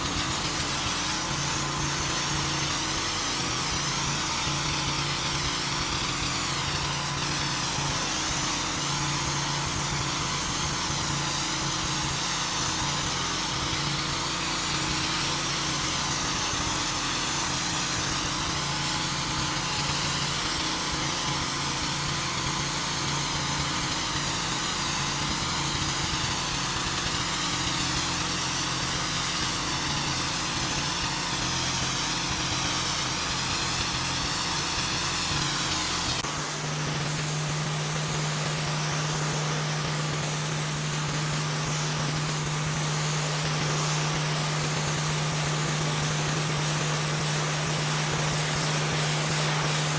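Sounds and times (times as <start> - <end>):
high-pressure water spraying: 0.0 - 49.9
pressure washer engine running: 0.0 - 49.9.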